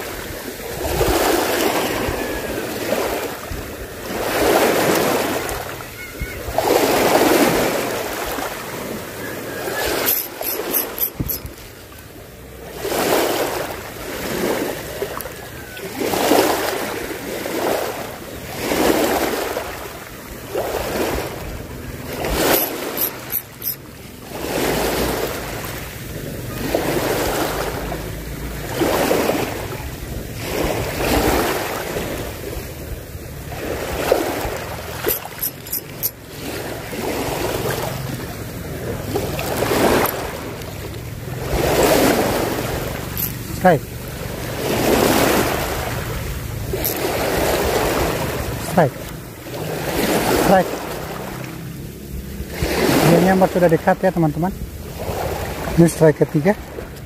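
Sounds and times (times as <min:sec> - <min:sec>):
small waves washing onto beach: 0:00.0 - 0:57.0.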